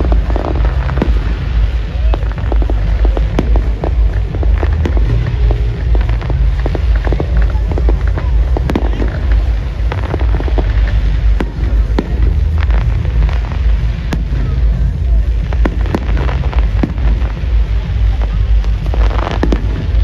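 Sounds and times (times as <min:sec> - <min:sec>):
fireworks cracking: 0:00.0 - 0:20.0
low rumble: 0:00.0 - 0:20.0.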